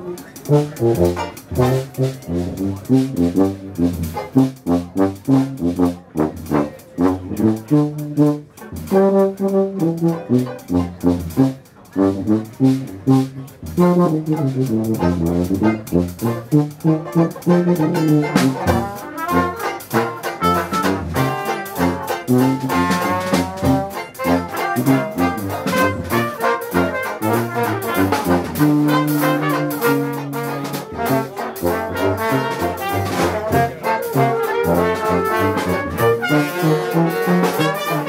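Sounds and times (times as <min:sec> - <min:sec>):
banjo: 0:00.0 - 0:38.0
dixieland jazz band playing: 0:00.0 - 0:38.0
trombone: 0:00.0 - 0:38.0
tuba: 0:00.0 - 0:38.0.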